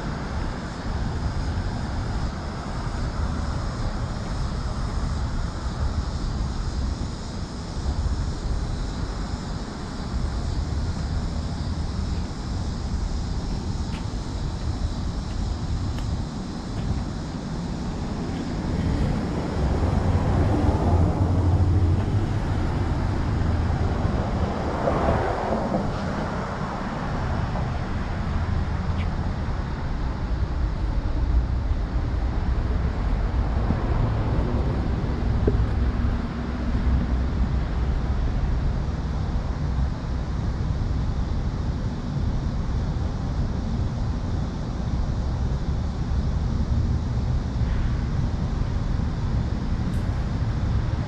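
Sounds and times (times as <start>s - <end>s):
traffic noise: 0.0s - 51.0s
wind rumbling on microphone: 0.0s - 51.0s.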